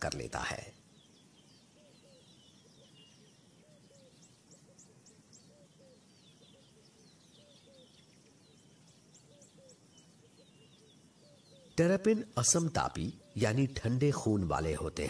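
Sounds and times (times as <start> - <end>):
birds chirping and whistling: 0.0 - 15.0
soft steady hiss: 0.0 - 15.0.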